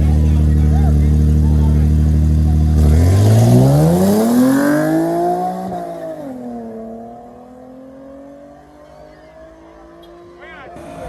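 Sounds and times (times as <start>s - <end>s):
racing car accelerating: 0.0s - 11.0s.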